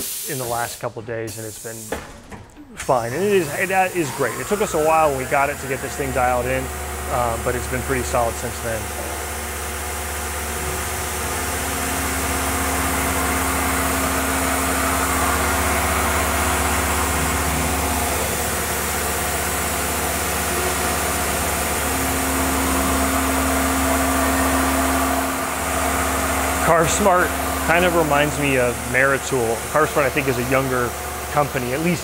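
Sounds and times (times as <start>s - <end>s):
milling machine humming: 1.5s - 32.0s
steady machine tone: 1.5s - 32.0s.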